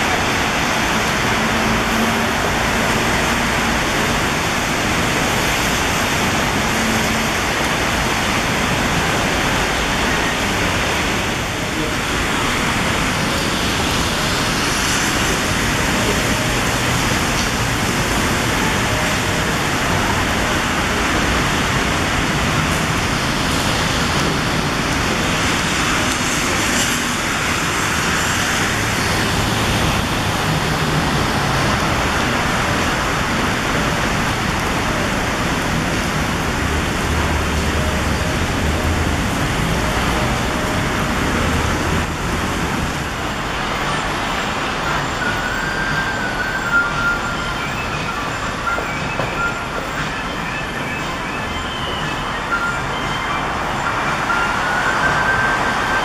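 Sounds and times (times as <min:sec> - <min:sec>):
road traffic: 0:00.0 - 0:56.0
wind and rain rushing: 0:00.0 - 0:56.0.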